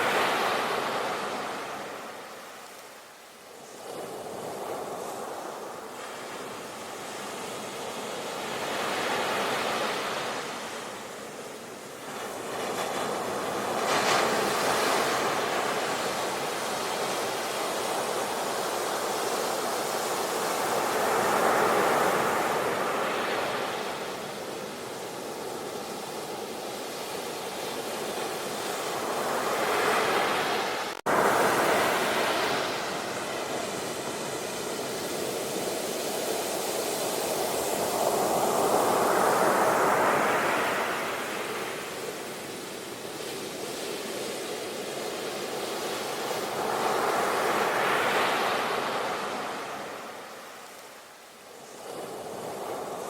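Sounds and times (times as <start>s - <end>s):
ocean waves breaking on shore: 0.0s - 53.0s.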